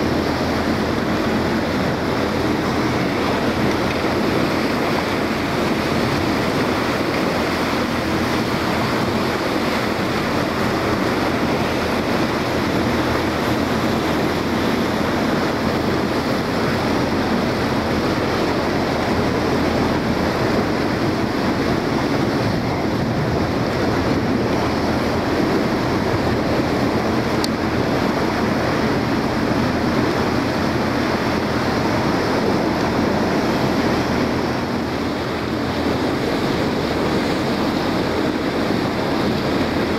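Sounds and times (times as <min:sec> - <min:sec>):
motorboat engine droning: 0:00.0 - 0:39.9
water rushing along hull: 0:00.0 - 0:39.9
wind on microphone: 0:00.0 - 0:39.9.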